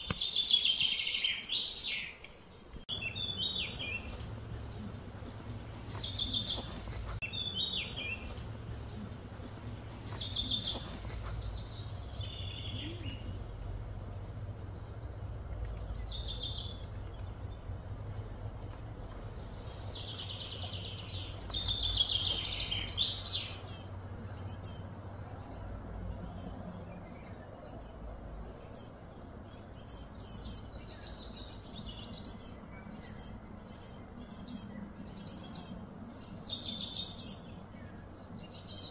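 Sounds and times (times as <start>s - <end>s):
birds chirping: 0.0s - 38.9s
steady low hum: 2.5s - 38.9s.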